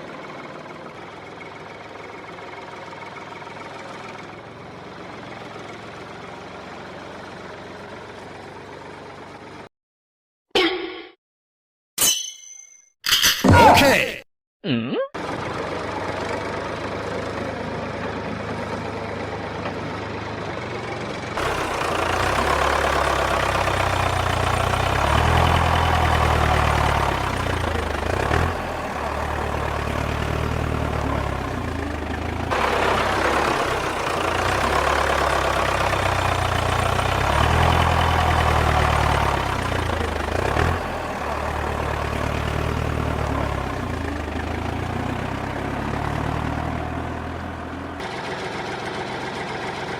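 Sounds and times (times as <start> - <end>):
mini bulldozer engine running: 0.0 - 9.7, 15.2 - 49.9.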